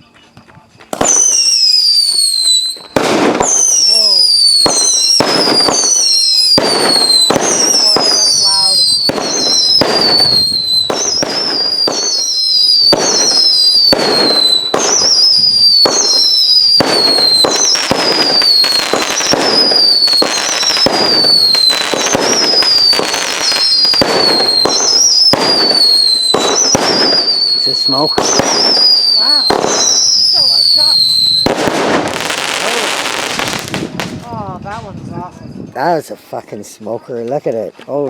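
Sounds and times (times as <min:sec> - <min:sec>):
firework crackling and pops: 0:00.8 - 0:35.2
firework whistles falling in pitch: 0:01.0 - 0:33.6.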